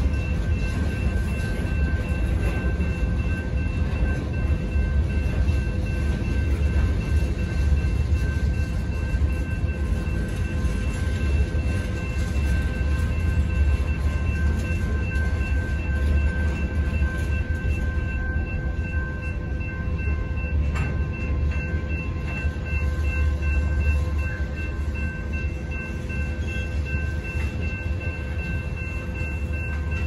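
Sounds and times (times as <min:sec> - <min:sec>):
crossing warning bell ringing: 0:00.0 - 0:30.0
train wheels rumbling on rail: 0:00.0 - 0:30.0.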